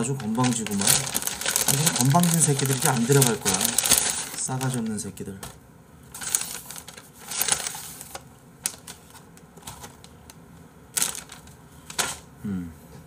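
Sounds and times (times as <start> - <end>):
paper bag crinkling: 0.0 - 5.0, 6.1 - 10.2, 10.9 - 12.3.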